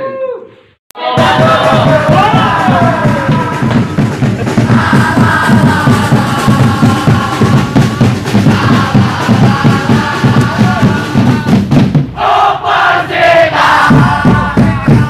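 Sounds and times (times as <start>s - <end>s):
group of voices chanting: 1.0s - 15.0s
quick steady drumbeat: 1.0s - 15.0s.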